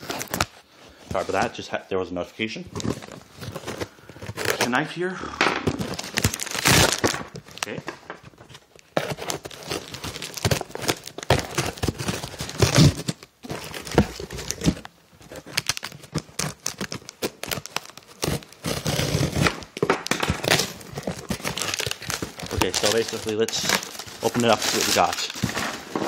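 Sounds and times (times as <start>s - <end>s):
cardboard scraping and tearing: 0.0s - 1.5s, 2.7s - 4.9s, 5.6s - 7.8s, 8.5s - 26.0s.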